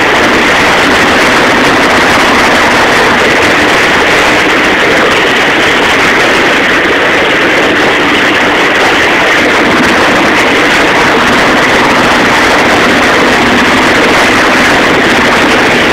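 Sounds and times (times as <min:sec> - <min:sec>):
boat motor: 0:00.0 - 0:15.9
churning wake water: 0:00.0 - 0:15.9.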